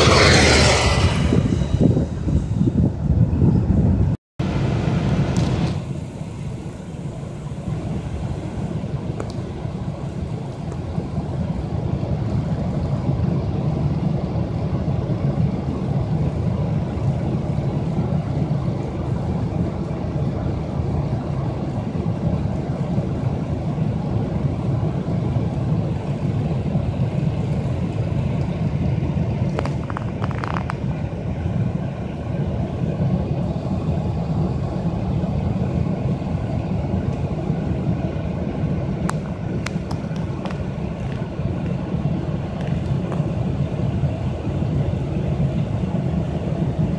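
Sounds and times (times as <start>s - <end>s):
car engine and tyres rumbling: 0.0s - 46.9s.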